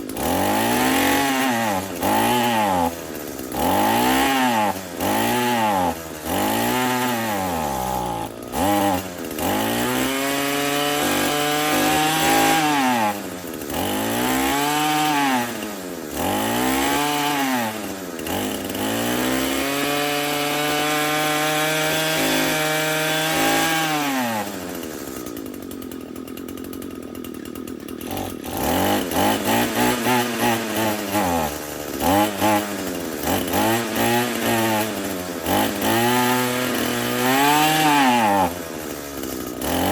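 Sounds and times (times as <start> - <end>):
string trimmer engine revving: 0.0 - 39.9.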